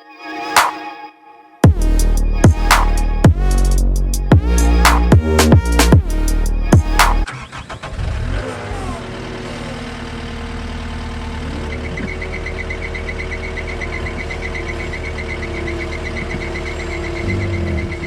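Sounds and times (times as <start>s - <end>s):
loader engine running: 1.6s - 18.0s.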